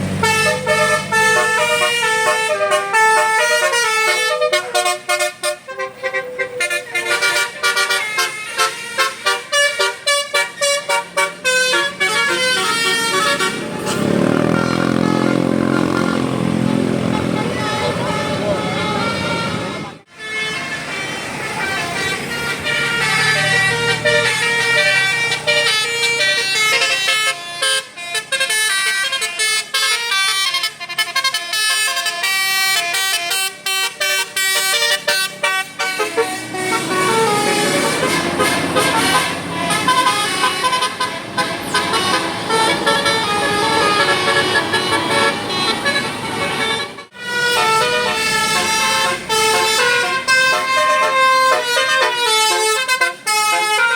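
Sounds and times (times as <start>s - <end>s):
musical bus horn melody: 0.0s - 53.9s.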